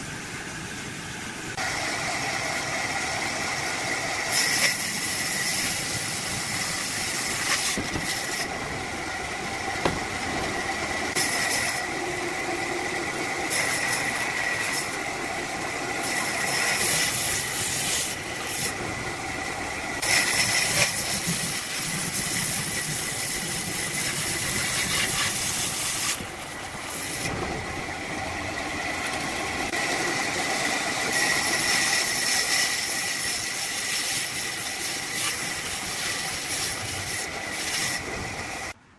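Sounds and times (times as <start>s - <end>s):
turning tool cutting wood: 1.6s - 38.8s
wood lathe whining: 1.6s - 38.8s.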